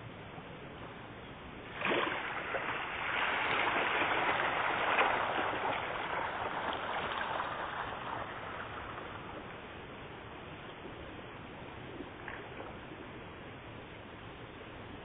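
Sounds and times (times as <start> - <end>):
fish splashing and churning water: 1.6 - 14.0.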